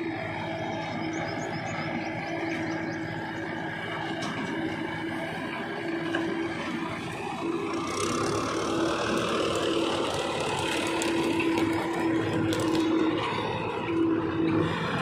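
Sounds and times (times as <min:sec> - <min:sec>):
diesel engines running: 0:00.0 - 0:15.0.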